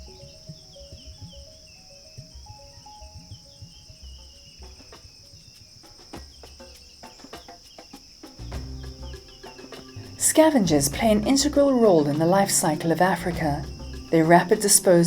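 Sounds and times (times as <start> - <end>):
bird chirps: 0.0 - 15.0
insects trilling: 0.0 - 15.0.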